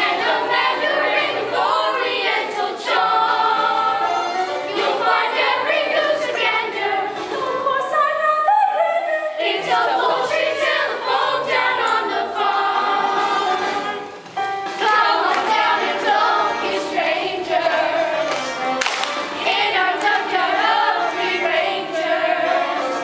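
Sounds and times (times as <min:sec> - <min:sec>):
choir singing a musical song: 0:00.0 - 0:23.0.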